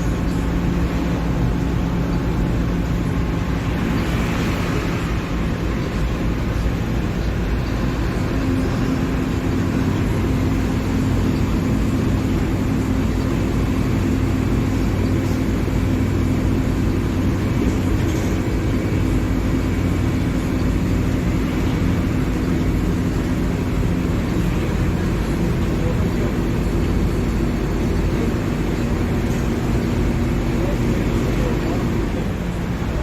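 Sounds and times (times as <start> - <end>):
bus diesel engine drone: 0.0 - 33.0.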